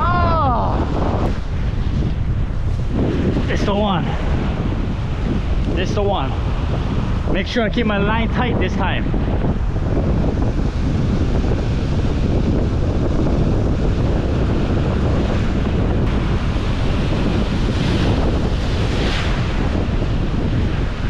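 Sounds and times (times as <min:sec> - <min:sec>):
ocean surf on shore: 0:00.0 - 0:21.0
wind buffeting microphone: 0:00.0 - 0:21.0.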